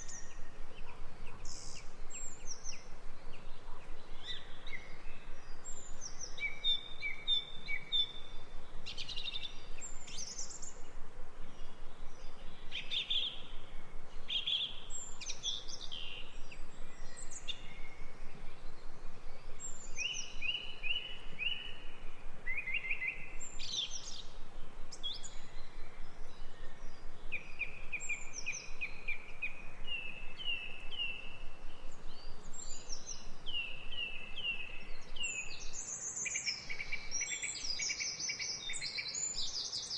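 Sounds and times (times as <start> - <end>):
faint steady hiss: 0.0 - 39.9
songbirds singing and calling: 0.0 - 39.9.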